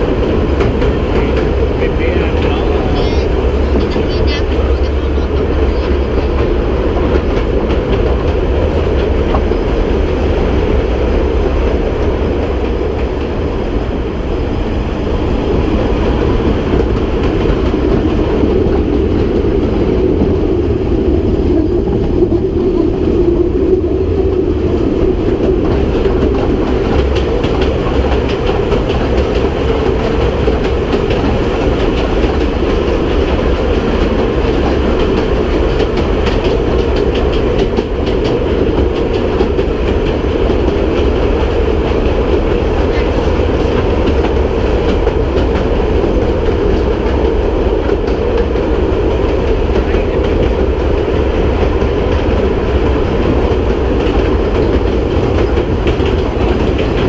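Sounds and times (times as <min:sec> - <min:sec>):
clickety-clack of rails: 0:00.0 - 0:57.0
train wheels rumbling on rails: 0:00.0 - 0:57.0.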